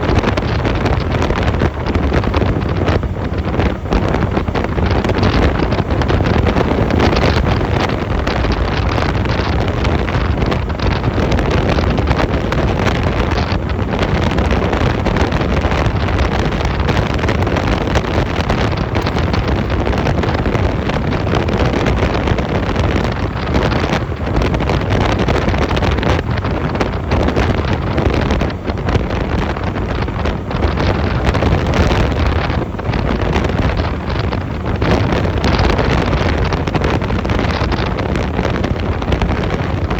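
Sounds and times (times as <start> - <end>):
motorcycle engine: 0.0 - 39.9
road noise: 0.0 - 39.9
wind rushing over microphone: 0.0 - 39.9.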